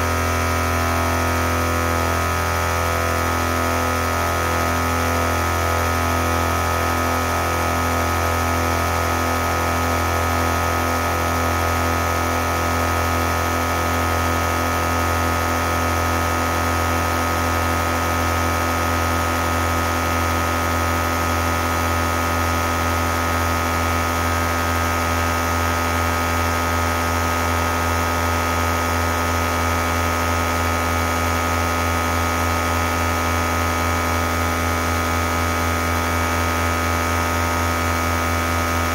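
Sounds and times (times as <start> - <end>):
air compressor humming: 0.0 - 38.9.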